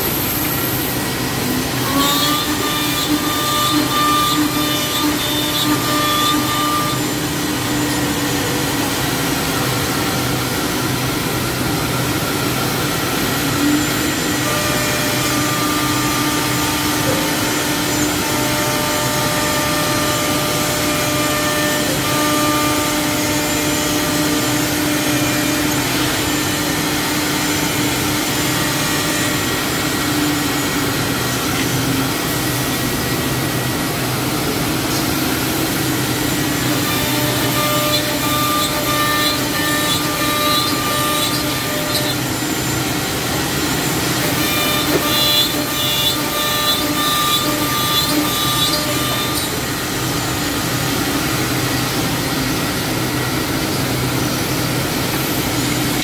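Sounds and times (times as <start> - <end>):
router spindles whining: 0.0 - 56.0
wood being machined: 0.0 - 56.0.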